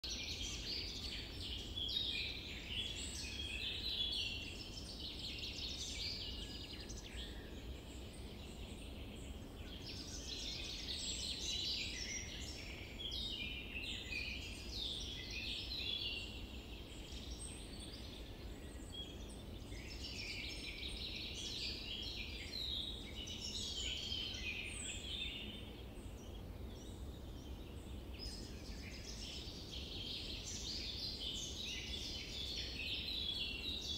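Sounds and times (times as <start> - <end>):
birds chirping and singing: 0.0 - 33.9.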